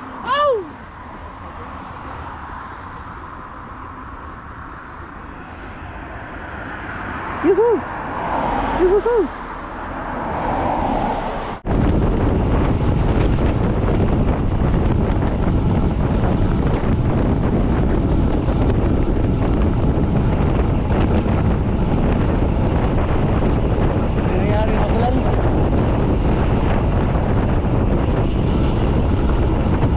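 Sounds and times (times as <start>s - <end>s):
road noise: 0.0s - 29.9s
wind rushing over microphone: 0.0s - 29.9s.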